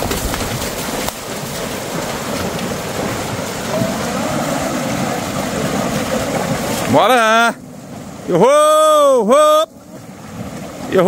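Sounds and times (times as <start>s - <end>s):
hooves splashing in water: 0.0s - 11.0s.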